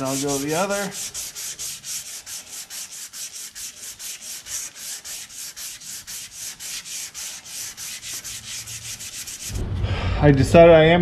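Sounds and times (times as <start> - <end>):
sandpaper rubbing back and forth: 0.0 - 9.6.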